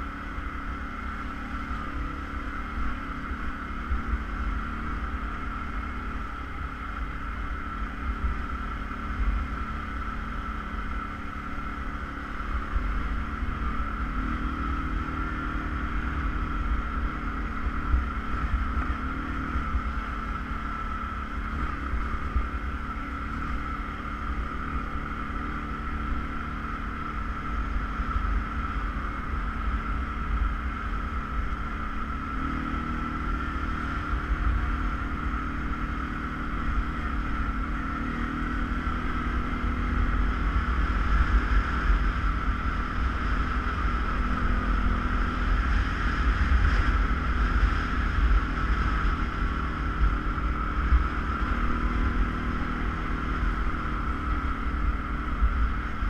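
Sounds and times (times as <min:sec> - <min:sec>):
atv engine droning: 0:00.0 - 0:56.0.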